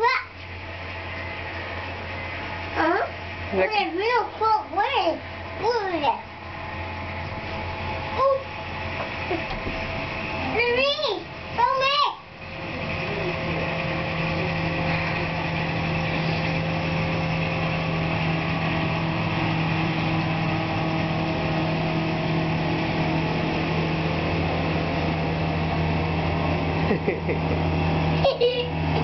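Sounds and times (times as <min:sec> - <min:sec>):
heavy diesel engines droning: 0:00.0 - 0:29.0.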